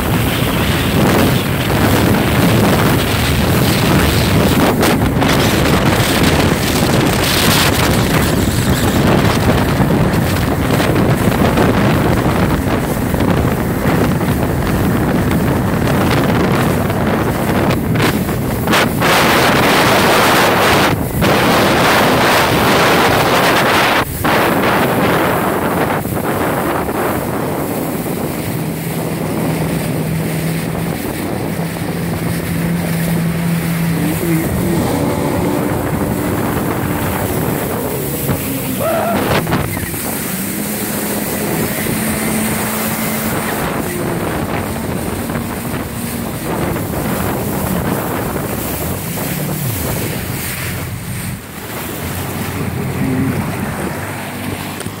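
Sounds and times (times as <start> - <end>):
watercraft engine revving: 0.0 - 55.0
wind noise on microphone: 0.0 - 55.0.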